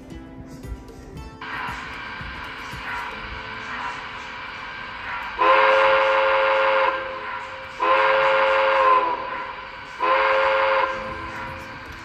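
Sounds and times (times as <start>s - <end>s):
electronic train whistle blasts: 1.4s - 12.0s.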